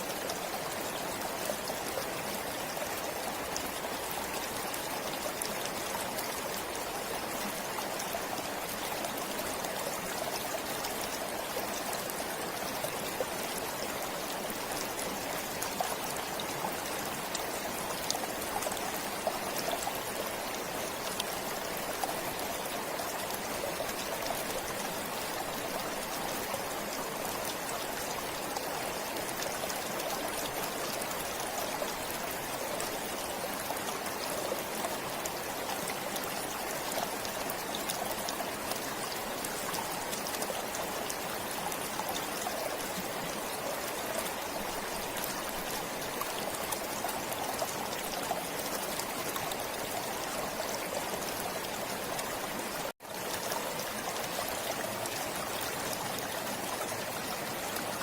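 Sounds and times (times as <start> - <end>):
stream flowing: 0.0 - 58.0
water trickling and splashing: 0.0 - 58.0.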